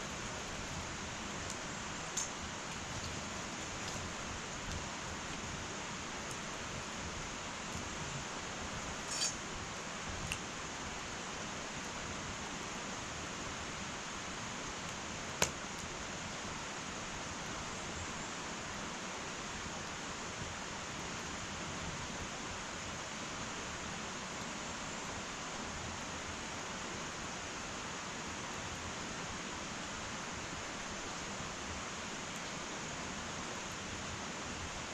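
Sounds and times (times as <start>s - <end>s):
wood fire hissing and crackling: 0.0s - 34.9s.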